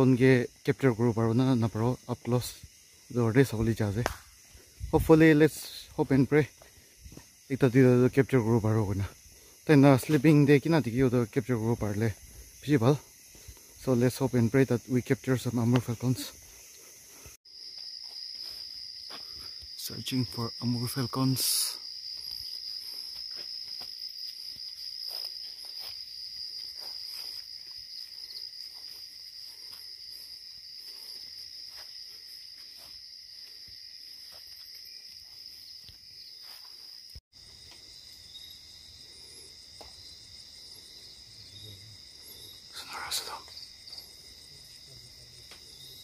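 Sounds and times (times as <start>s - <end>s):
crickets trilling: 0.0s - 46.0s.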